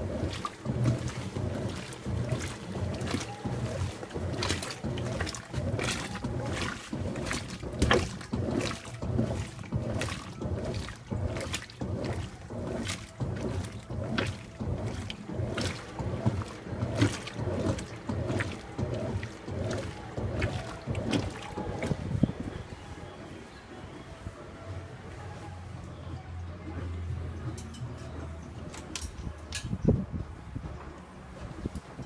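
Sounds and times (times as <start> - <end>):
low motor hum: 0.0 - 32.0
water and clothes swishing: 0.0 - 32.0.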